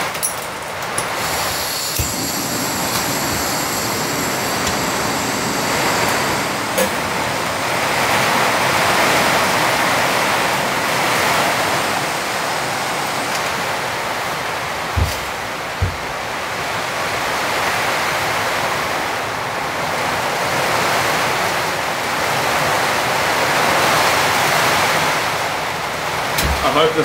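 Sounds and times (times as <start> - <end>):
heavy rain on roof: 0.0 - 27.0.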